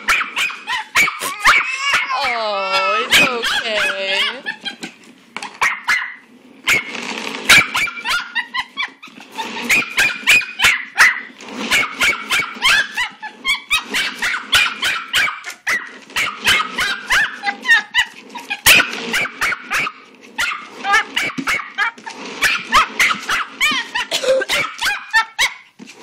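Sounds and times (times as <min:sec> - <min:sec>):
puppy yapping: 0:00.1 - 0:04.8, 0:05.6 - 0:06.9, 0:07.5 - 0:25.7.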